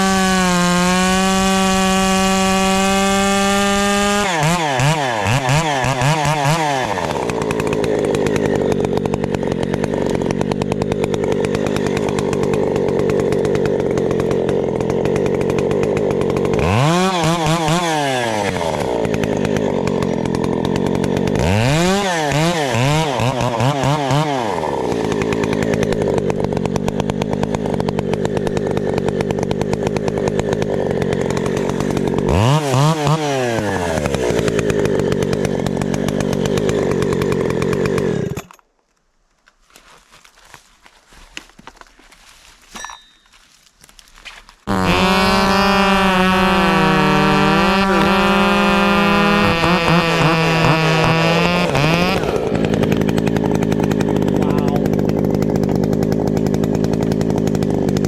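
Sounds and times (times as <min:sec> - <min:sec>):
chainsaw revving and idling: 0:00.0 - 0:38.6, 0:43.3 - 0:58.0.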